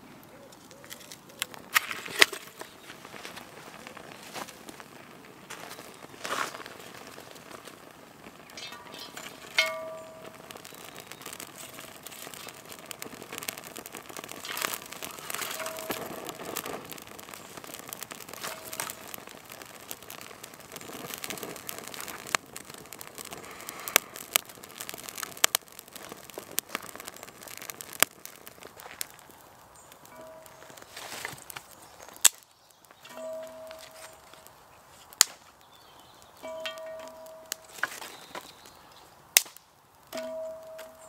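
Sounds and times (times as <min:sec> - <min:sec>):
twig fire crackling and popping: 0:00.0 - 0:41.0.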